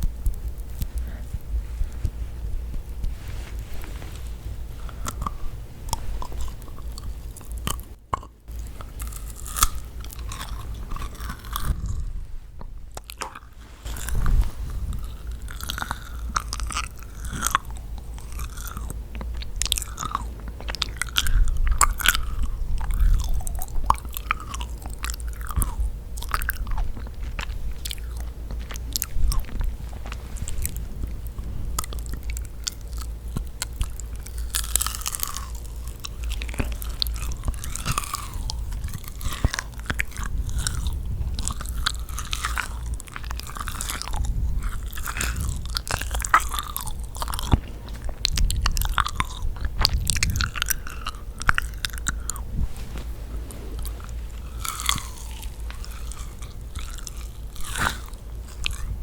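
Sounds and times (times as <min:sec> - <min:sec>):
biting and chewing cookie: 0:00.0 - 0:59.0
wet mouth clicks: 0:04.8 - 0:59.0.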